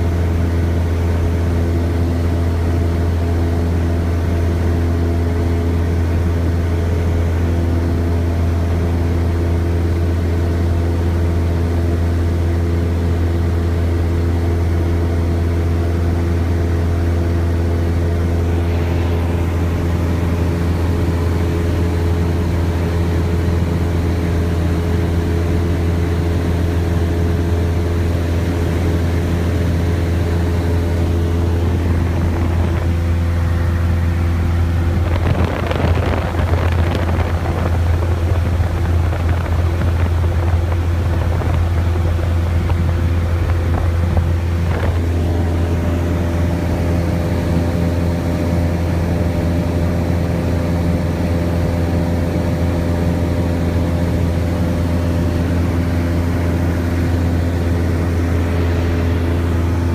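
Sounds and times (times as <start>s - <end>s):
light aircraft engine droning: 0.0s - 59.9s.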